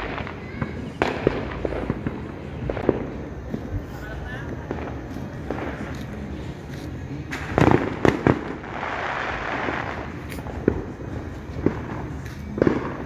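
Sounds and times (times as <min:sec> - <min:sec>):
firework pops: 0:00.0 - 0:03.8, 0:04.5 - 0:13.0
firecracker bangs: 0:00.0 - 0:06.2, 0:07.3 - 0:13.0
fireworks hissing: 0:00.0 - 0:13.0.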